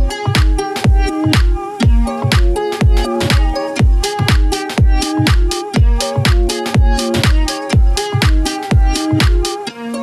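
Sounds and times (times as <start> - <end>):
steady kick drum: 0.0 - 9.7
electronic dance music: 0.0 - 10.0
sustained synth notes: 0.0 - 10.0.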